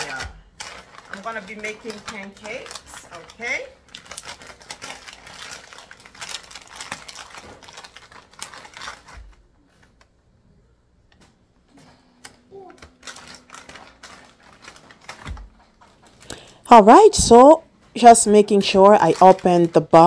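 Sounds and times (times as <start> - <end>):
plastic bag crinkling: 0.0 - 10.0, 12.6 - 20.0.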